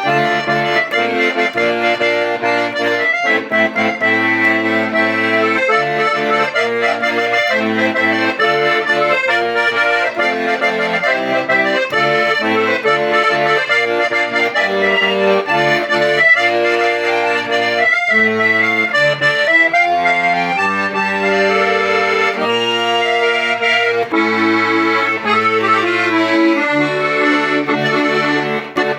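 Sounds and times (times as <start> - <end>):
accordion playing a tune: 0.0 - 28.9.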